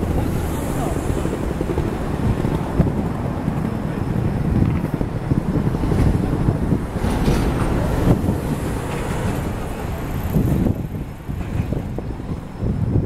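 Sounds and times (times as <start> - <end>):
low rumble of city traffic: 0.0 - 13.0
wind buffeting microphone: 0.0 - 13.0.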